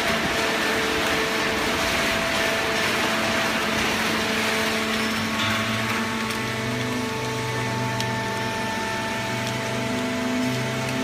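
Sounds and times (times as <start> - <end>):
baler machine humming: 0.0 - 11.0.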